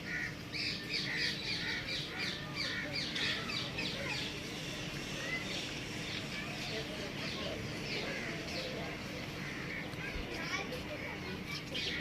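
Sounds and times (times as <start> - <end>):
birds calling harshly: 0.0 - 12.0.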